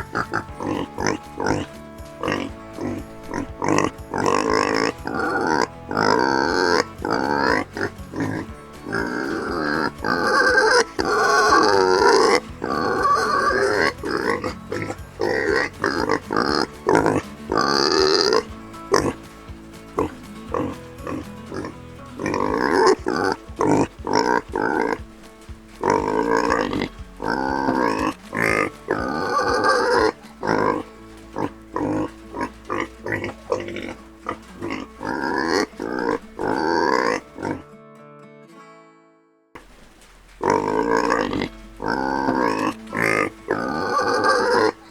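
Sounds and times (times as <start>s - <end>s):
pig calls: 0.0s - 25.0s, 25.8s - 37.6s, 39.6s - 44.9s.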